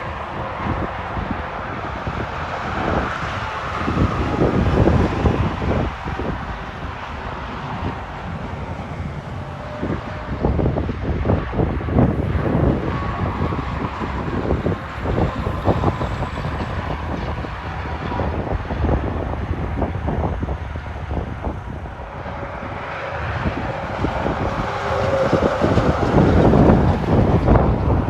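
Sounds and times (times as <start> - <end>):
road traffic passing: 0.0 - 28.0
vehicle approaching: 0.0 - 28.0
wind buffeting microphone: 0.0 - 28.0.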